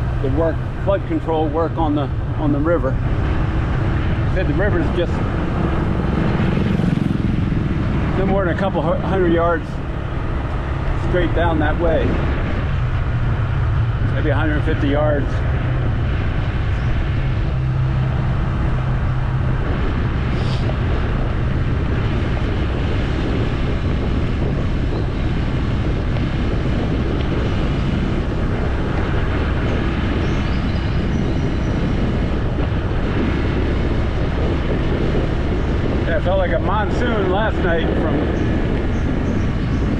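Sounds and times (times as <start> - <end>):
vehicle engine and road noise: 0.0 - 39.9
wind on microphone: 0.0 - 39.9.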